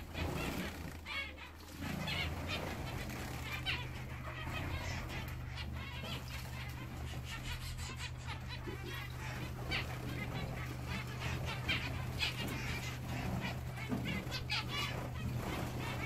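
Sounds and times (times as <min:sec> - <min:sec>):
finches giving nasal calls: 0:00.0 - 0:16.0
steady low hum: 0:00.0 - 0:16.0.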